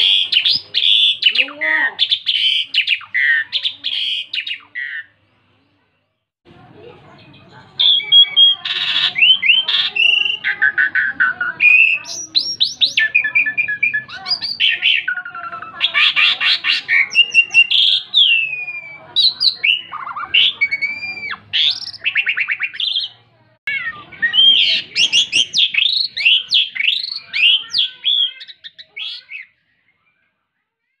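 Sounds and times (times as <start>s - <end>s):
starling singing: 0.0s - 5.4s, 7.2s - 29.7s.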